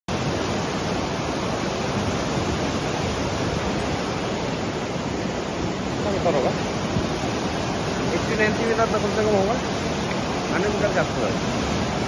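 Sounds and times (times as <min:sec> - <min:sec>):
river rushing: 0:00.1 - 0:12.0.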